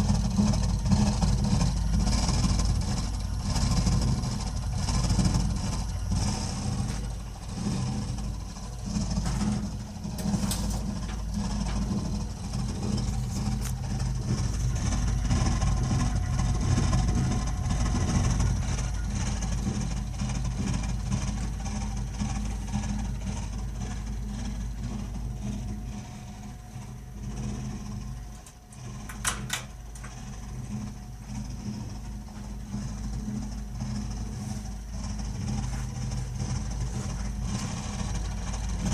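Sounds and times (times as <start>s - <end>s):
gas boiler droning: 0.0s - 38.9s.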